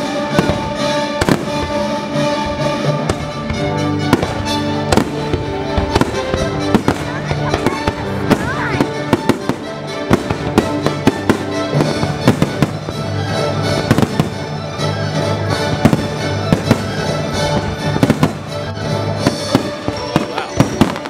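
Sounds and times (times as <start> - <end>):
fireworks bursting: 0.0 - 21.0
patriotic orchestral music: 0.0 - 21.0.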